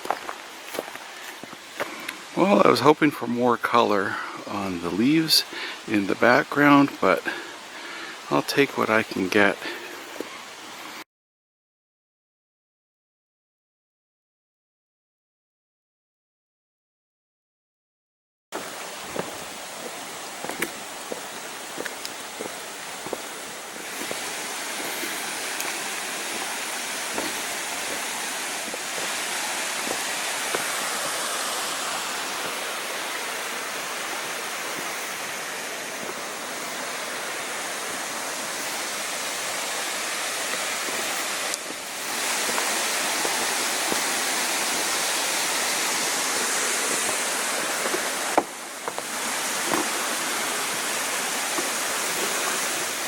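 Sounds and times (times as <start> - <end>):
creek water rushing: 0.0 - 11.0, 18.6 - 53.0.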